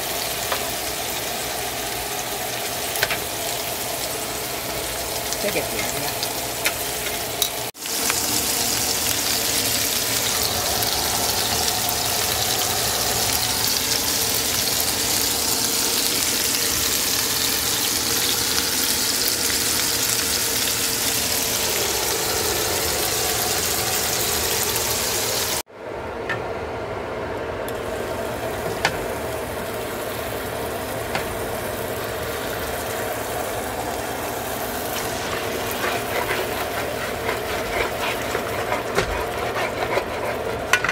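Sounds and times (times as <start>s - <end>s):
meatballs sizzling in oil: 0.0s - 25.7s, 27.8s - 40.9s.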